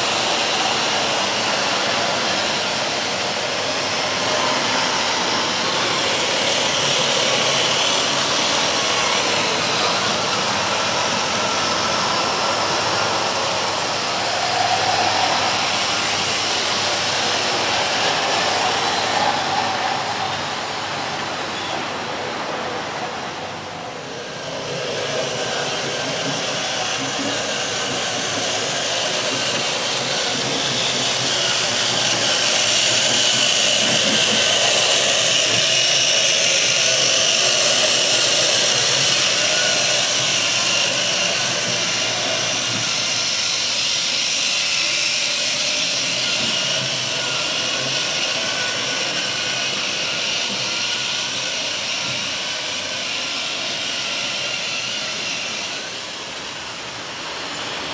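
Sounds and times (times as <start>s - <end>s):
model train motor whine: 0.0s - 57.9s
wheels rolling on track: 0.0s - 57.9s.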